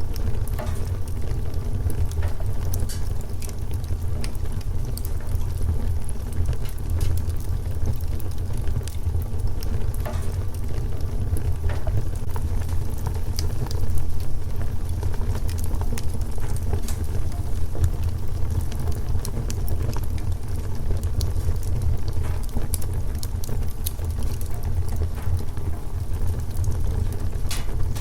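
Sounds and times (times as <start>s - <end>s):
low fire rumble: 0.0s - 28.0s
wood fire crackling: 0.0s - 28.0s.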